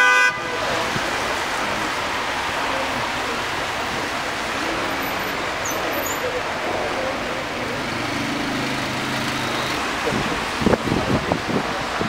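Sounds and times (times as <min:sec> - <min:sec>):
rain on wet pavement: 0:00.0 - 0:12.0.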